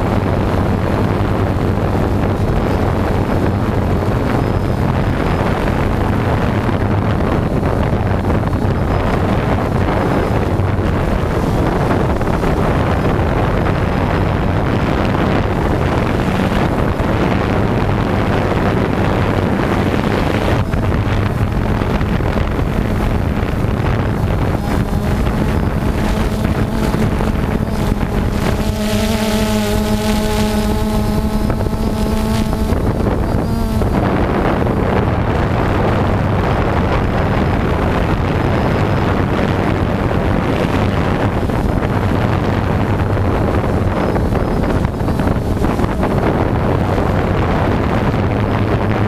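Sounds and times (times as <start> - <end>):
drone propellers buzzing: 0.0 - 49.0
wind noise on microphone: 0.0 - 49.0.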